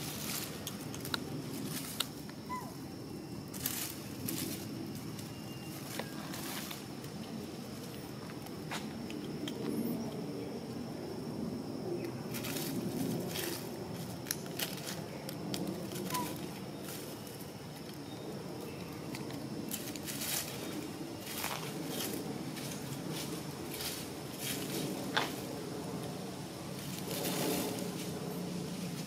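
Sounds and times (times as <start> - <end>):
dry leaves rustling: 0.0 - 10.0, 12.0 - 29.0
low background noise: 0.0 - 29.0.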